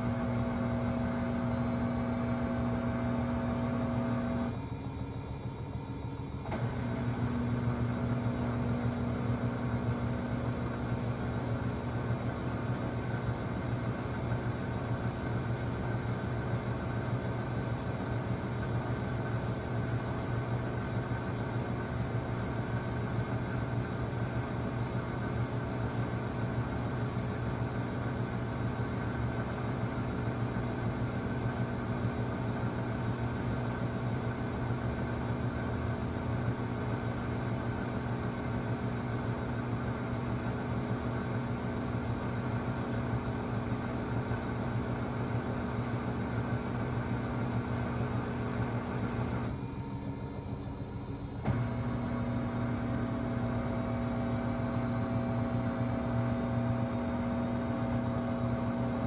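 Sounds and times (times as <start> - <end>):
washer pump loud buzz: 0.0 - 4.6, 6.4 - 15.7, 17.5 - 49.7, 51.0 - 59.0.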